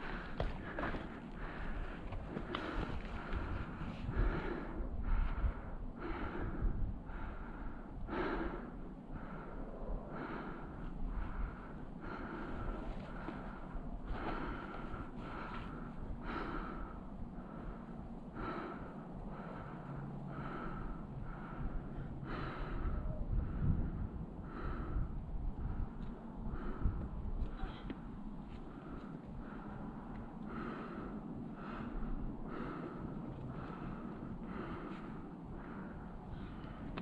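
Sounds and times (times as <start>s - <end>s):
person breathing hard: 0.0s - 37.0s
wind rumble on microphone: 0.0s - 37.0s.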